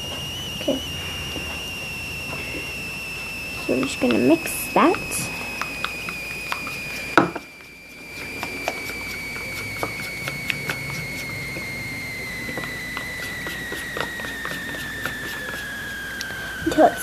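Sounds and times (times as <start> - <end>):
steady high whine: 0.0 - 17.0
plastic spoon stirring glue in bowl: 0.6 - 17.0.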